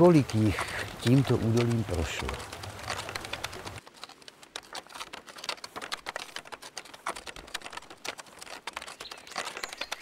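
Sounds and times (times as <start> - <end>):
wooden wheelbarrow clicking and knocking: 0.0 - 10.0.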